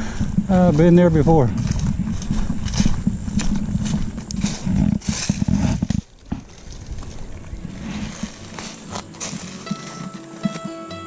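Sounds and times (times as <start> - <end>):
rustling: 0.0 - 10.9
footsteps on dry grass: 0.0 - 11.0.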